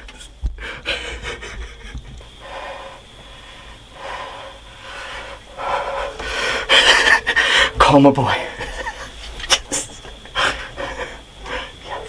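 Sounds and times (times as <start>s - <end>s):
person breathing hard: 0.5s - 12.0s.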